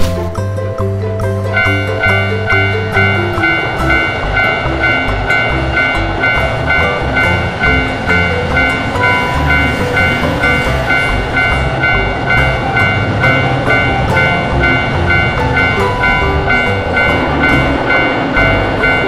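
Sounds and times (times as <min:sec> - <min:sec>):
background music: 0:00.0 - 0:19.0
electric train passing: 0:00.0 - 0:19.0
railroad crossing bell ringing: 0:00.8 - 0:19.0.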